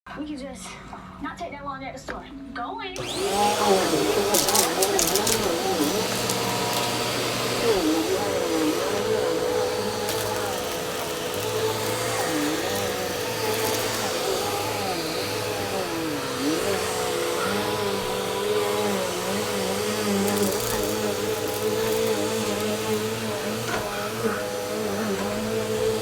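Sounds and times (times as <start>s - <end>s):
vacuum cleaner running: 3.0s - 26.0s.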